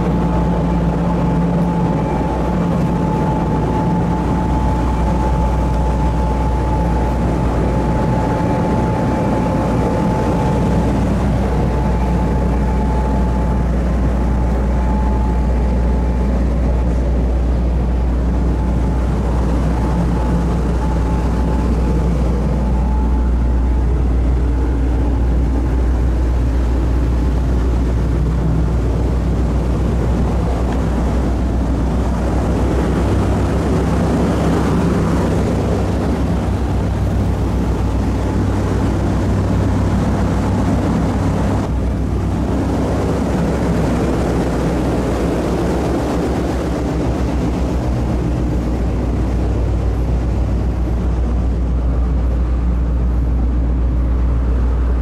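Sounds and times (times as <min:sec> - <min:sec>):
ferry engines droning: 0:00.0 - 0:55.0.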